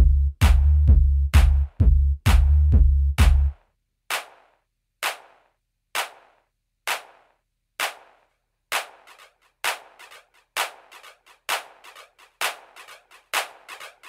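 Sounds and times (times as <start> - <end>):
drum machine snare hits: 0.0 - 14.0.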